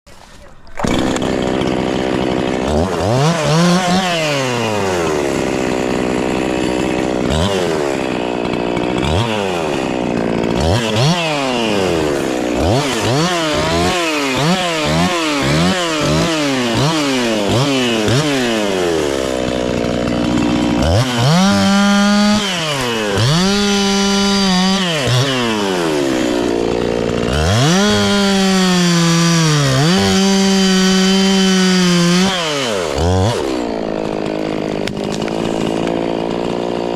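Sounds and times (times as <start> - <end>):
chainsaw revving: 0.1 - 36.9.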